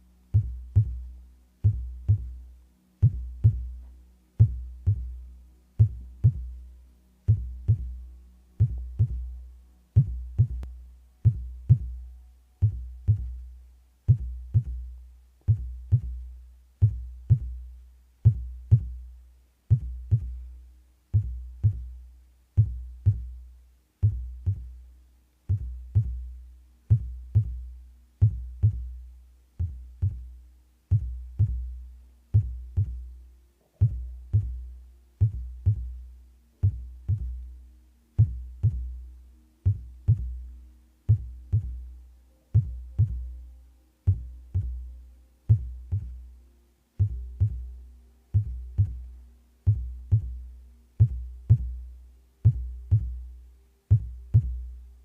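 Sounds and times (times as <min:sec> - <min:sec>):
heartbeat thumps: 0:00.3 - 0:24.9, 0:25.5 - 0:46.3, 0:47.0 - 0:54.9.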